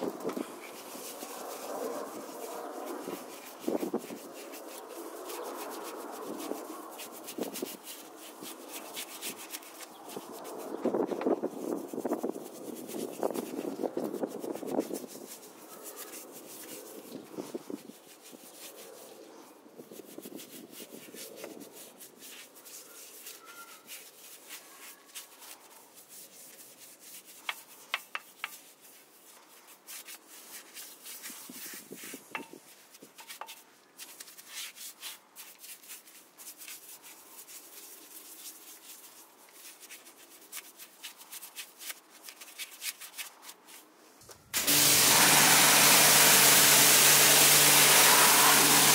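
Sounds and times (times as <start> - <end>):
brush scrubbing metal: 0.0 - 43.9, 44.6 - 48.9.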